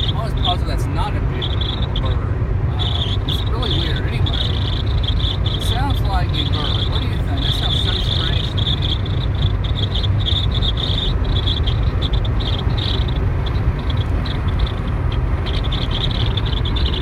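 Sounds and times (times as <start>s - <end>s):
road rumble: 0.0s - 17.0s
wind whistling through car window: 0.0s - 17.0s.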